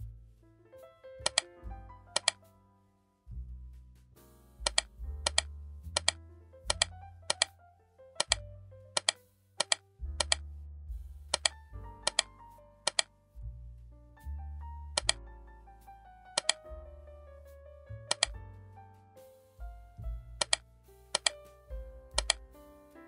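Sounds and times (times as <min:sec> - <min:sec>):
low bass notes: 0:00.0 - 0:23.0
light keyboard melody: 0:00.1 - 0:23.0.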